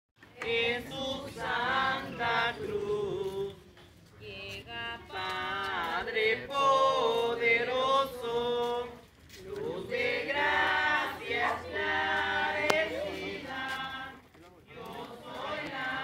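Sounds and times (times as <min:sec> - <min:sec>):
people singing a hymn: 0:00.2 - 0:16.0.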